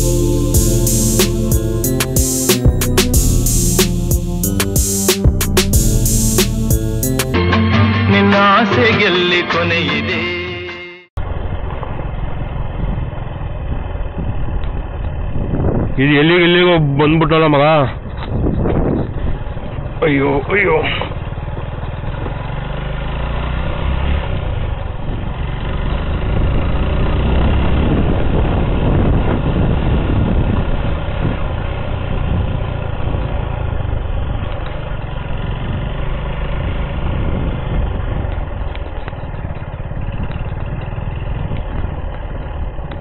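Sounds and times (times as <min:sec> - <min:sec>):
motorcycle engine running: 0:00.0 - 0:07.4, 0:11.2 - 0:43.0.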